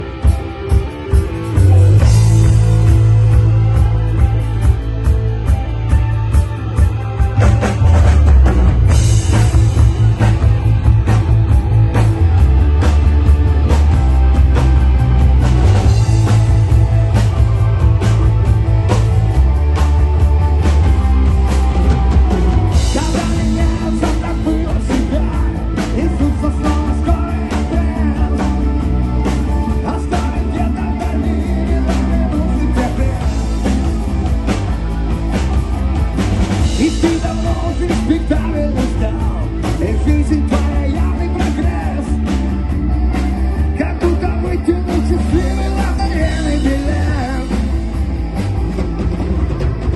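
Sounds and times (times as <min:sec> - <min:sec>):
bass guitar: 0:00.0 - 0:49.9
drum kit beat: 0:00.0 - 0:49.9
electric guitar: 0:00.0 - 0:49.9.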